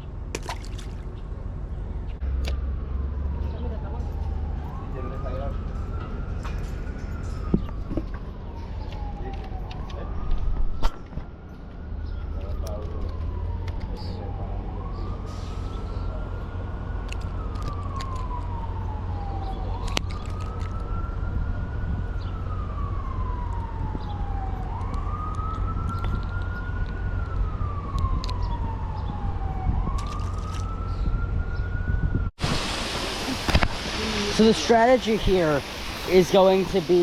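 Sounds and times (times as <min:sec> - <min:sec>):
emergency siren wailing: 0:02.3 - 0:32.4, 0:33.5 - 0:37.0.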